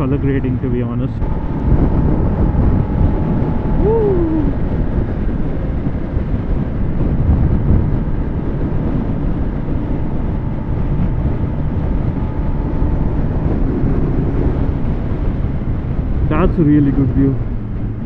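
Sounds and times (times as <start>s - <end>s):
motorcycle engine cruising: 0.0s - 18.0s
wind rush on microphone: 0.0s - 18.0s.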